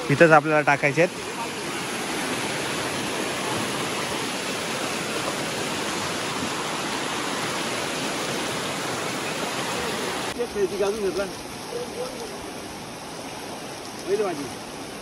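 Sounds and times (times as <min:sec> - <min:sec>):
water rushing over weir: 0:00.0 - 0:15.0.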